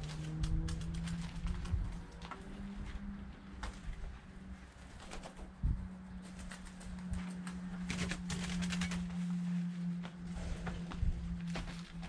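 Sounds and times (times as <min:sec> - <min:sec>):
doves fluttering and scuffling: 0:00.0 - 0:12.0
steady low hum: 0:00.0 - 0:12.0.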